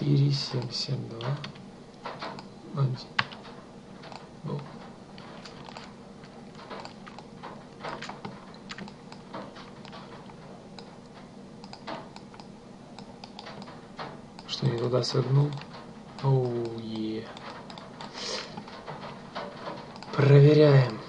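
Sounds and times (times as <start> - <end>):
low steady hum: 0.0 - 21.0
keyboard and mouse clicks: 0.6 - 2.5, 3.2 - 21.0.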